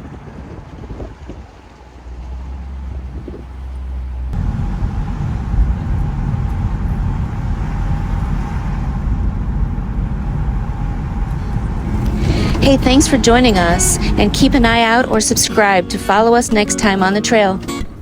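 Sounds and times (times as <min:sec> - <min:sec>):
low rumble: 0:00.0 - 0:17.0
faint steady hum: 0:03.1 - 0:17.8.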